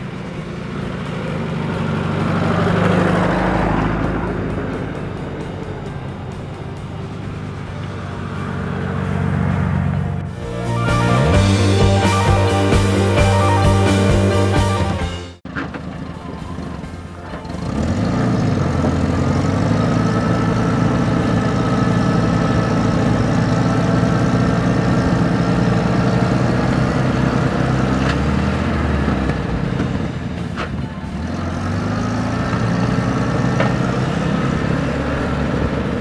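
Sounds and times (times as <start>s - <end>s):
vehicle engines under load: 0.0s - 10.5s, 15.3s - 36.0s.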